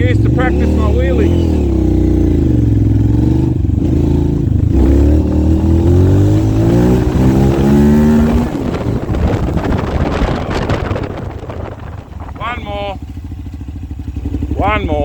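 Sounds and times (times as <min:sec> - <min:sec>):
motorcycle engine accelerating: 0:00.0 - 0:15.0
wind buffeting microphone: 0:01.3 - 0:14.6.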